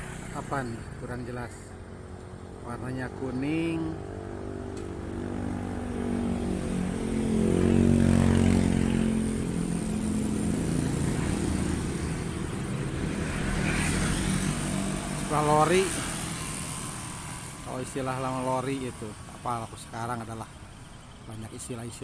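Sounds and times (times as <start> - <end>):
engine droning past: 3.0 - 21.0.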